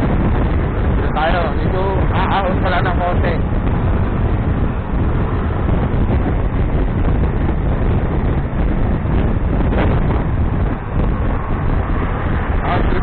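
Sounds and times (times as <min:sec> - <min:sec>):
vehicle running rumble: 0:00.0 - 0:13.0
wind buffeting microphone: 0:00.0 - 0:13.0.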